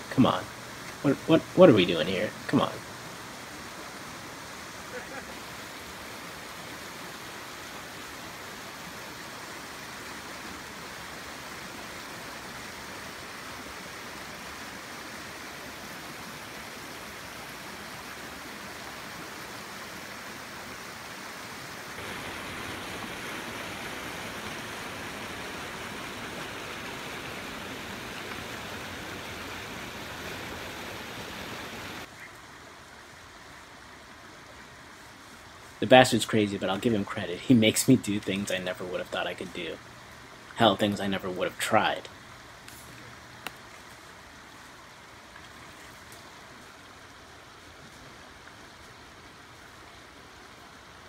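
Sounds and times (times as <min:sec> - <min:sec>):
stream rushing over boulders: 0:00.0 - 0:51.0.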